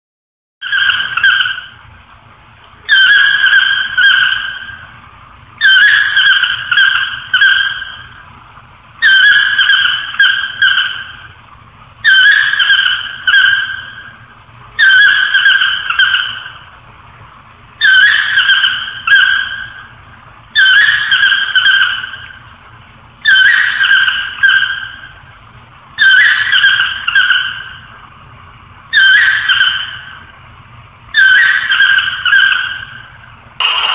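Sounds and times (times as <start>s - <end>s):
animal calling with ringing notes: 0.6s - 1.8s, 2.8s - 16.8s, 17.7s - 28.0s, 28.9s - 33.9s.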